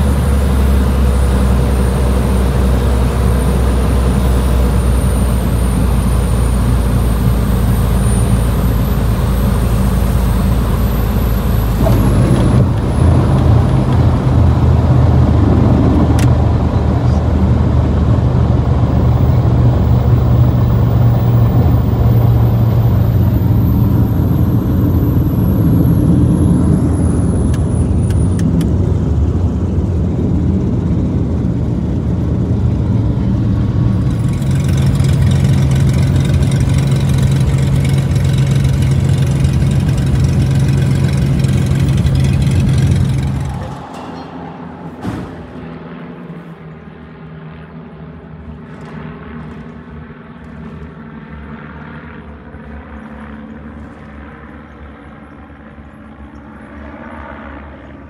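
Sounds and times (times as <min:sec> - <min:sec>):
diesel bus engine droning: 0:00.0 - 0:56.1.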